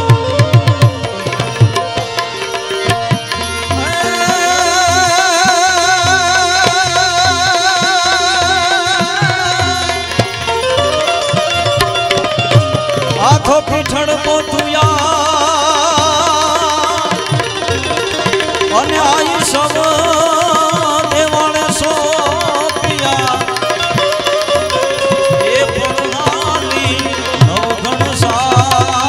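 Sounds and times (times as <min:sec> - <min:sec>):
tabla and dholak drumming: 0:00.0 - 0:29.0.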